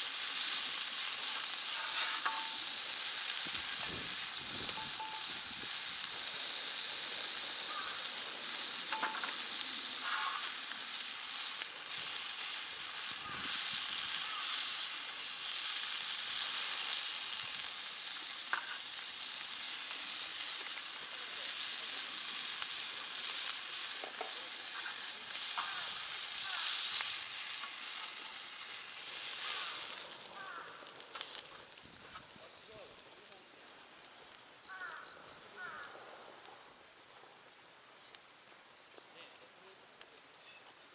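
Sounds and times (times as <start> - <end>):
meat sizzling on grill pan: 0.0 - 36.0
fire popping: 0.0 - 39.0.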